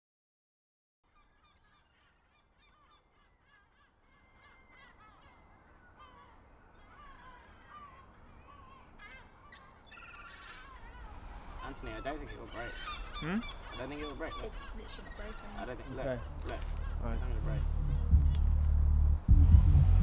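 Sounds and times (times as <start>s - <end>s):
flock of birds calling: 1.1s - 18.6s.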